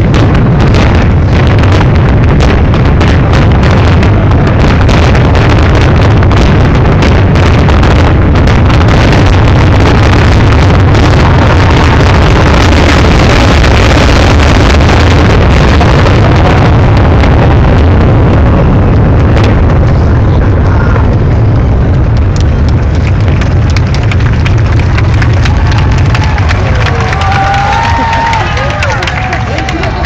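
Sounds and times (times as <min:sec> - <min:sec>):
fireworks booming and crackling: 0:00.0 - 0:30.0.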